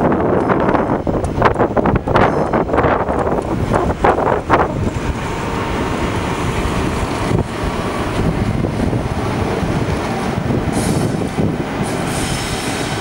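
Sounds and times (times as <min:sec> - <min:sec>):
train rolling rumble: 0:00.0 - 0:13.0
wind buffeting microphone: 0:00.0 - 0:13.0.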